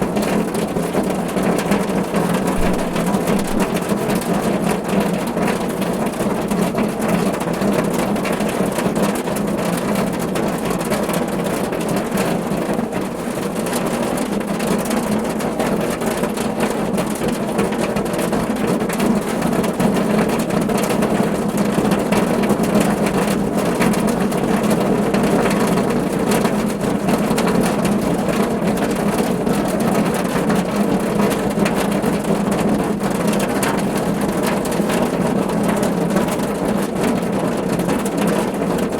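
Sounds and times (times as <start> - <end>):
rain drumming on car roof: 0.0 - 38.9.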